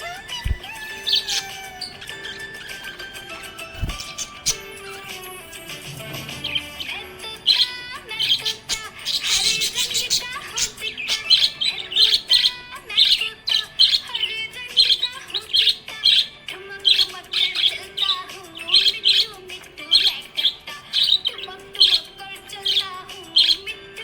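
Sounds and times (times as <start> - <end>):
parrots chirping: 0.0 - 24.0.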